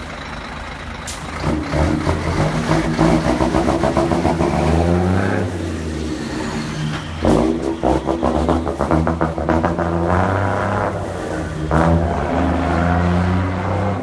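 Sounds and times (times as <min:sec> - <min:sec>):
diesel truck accelerating: 0:00.0 - 0:14.0.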